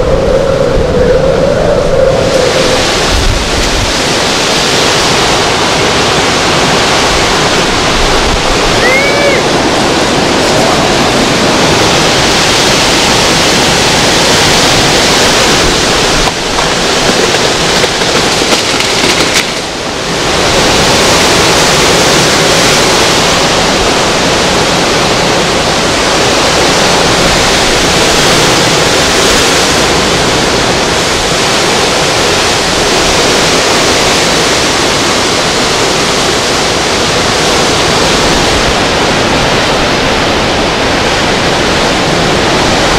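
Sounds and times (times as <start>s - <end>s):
wind gusts tearing through trees: 0.0s - 42.9s
driving rain: 1.8s - 42.9s.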